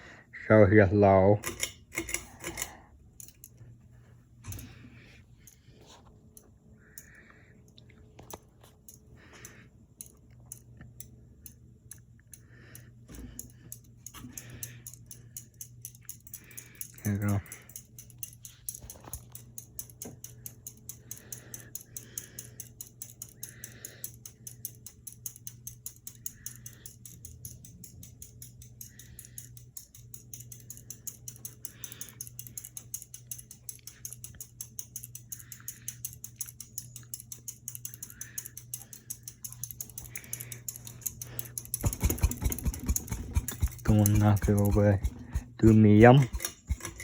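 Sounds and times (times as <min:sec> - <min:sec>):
ceiling fan motor hum: 0:00.0 - 0:47.0
fan light ticking: 0:06.3 - 0:47.0.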